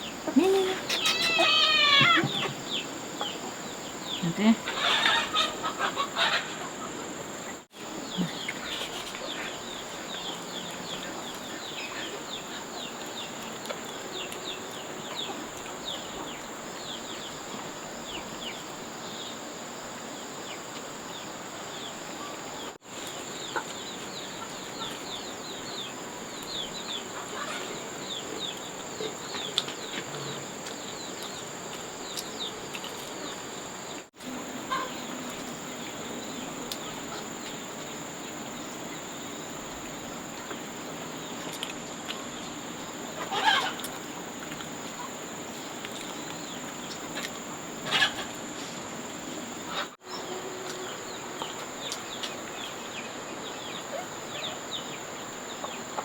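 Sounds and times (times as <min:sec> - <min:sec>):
small birds chirping: 0:00.0 - 0:19.4, 0:20.3 - 0:56.0.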